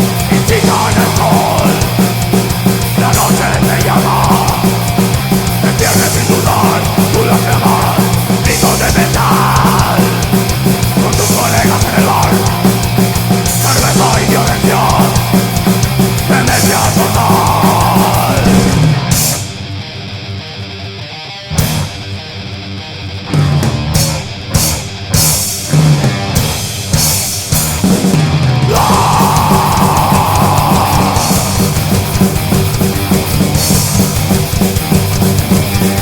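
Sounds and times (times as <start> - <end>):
steady drum beat: 0.0 - 19.7, 21.6 - 22.1, 23.3 - 36.0
heavy rock band playing: 0.0 - 36.0.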